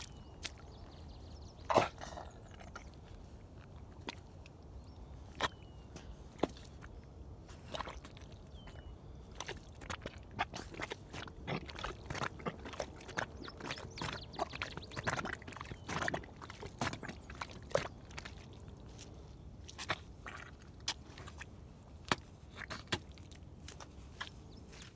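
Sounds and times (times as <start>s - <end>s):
rubber boots squelching in mud: 0.0s - 24.9s.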